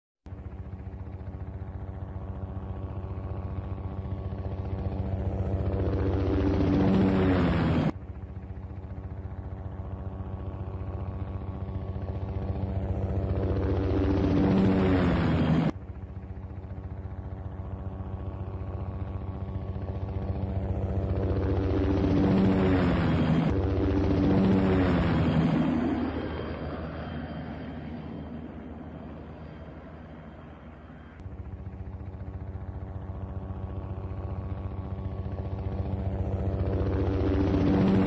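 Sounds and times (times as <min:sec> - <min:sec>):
helicopter rotor flyby: 0:00.2 - 0:38.0.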